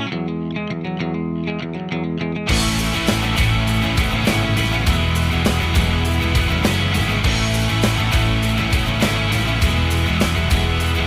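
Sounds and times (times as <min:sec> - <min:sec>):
clean plucked guitar: 0:00.0 - 0:11.0
rock music with distorted guitars: 0:00.0 - 0:11.0.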